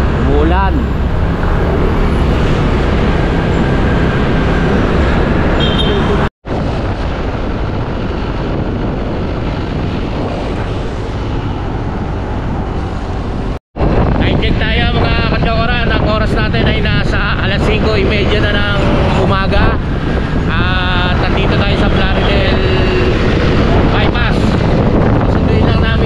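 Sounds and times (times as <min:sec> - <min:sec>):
motorcycle riding rushing noise: 0:00.0 - 0:14.4, 0:15.4 - 0:26.0.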